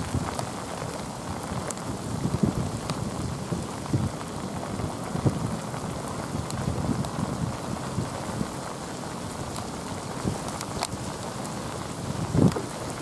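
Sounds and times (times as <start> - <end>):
heavy rain hiss: 0.0 - 13.0
raindrops ticking and thumping: 0.0 - 13.0.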